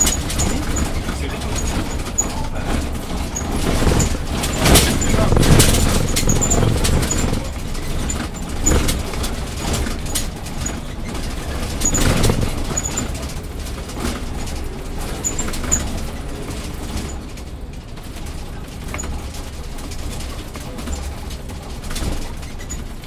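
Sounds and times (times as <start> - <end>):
bus body knocks and rattles: 0.0 - 23.0
bus engine and road rumble: 0.0 - 23.0.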